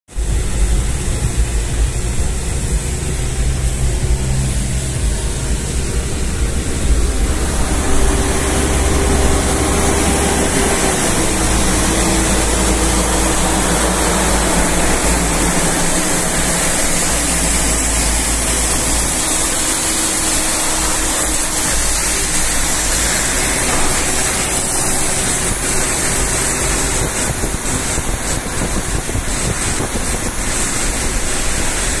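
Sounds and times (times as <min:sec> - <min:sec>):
car engine drone: 0:00.1 - 0:32.0
rain: 0:00.1 - 0:32.0
tyres hissing on wet asphalt: 0:00.1 - 0:32.0.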